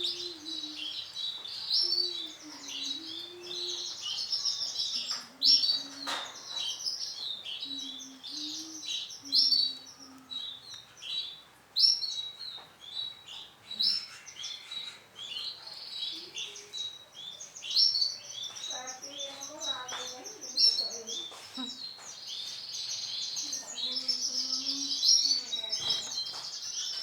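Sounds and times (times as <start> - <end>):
canary singing trills: 0.0 - 27.0.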